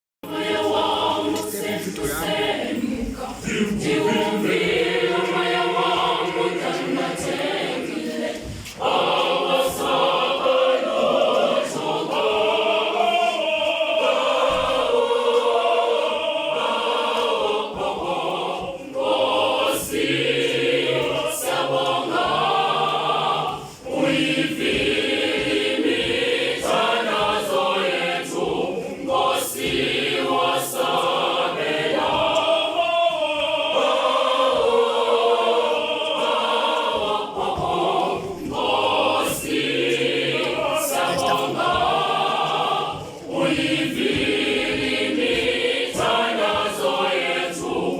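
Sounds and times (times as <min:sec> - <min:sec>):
choir singing unaccompanied: 0:00.2 - 0:47.9.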